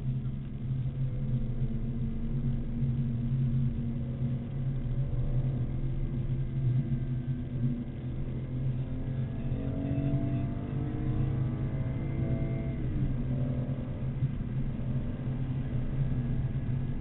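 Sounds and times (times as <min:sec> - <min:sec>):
car engine running: 0:00.0 - 0:17.0
road and tyre noise: 0:00.0 - 0:17.0.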